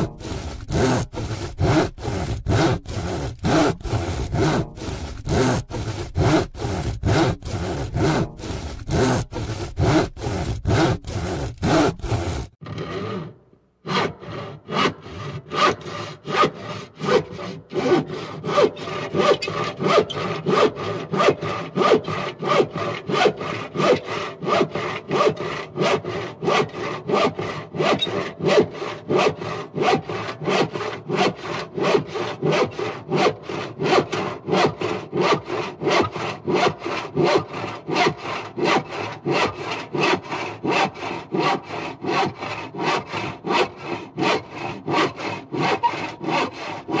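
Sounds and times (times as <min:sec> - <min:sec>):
hand saw sawing: 0:00.0 - 0:47.0.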